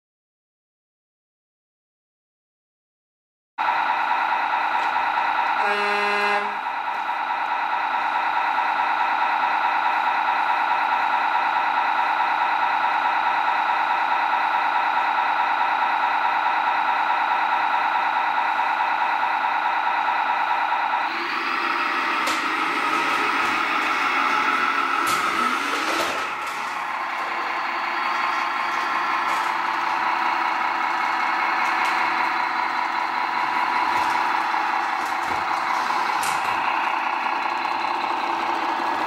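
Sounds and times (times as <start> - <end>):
simulated diesel engine idle: 3.6 - 39.0.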